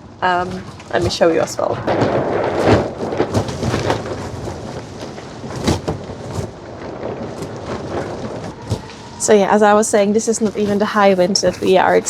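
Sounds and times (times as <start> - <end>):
wind gusting: 0.0 - 12.0
plastic cover flapping: 0.4 - 9.3, 10.3 - 12.0.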